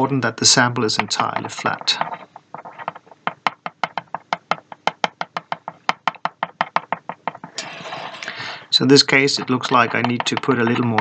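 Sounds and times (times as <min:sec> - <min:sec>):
glass slide tapping on powder: 0:00.7 - 0:08.3, 0:09.2 - 0:11.0.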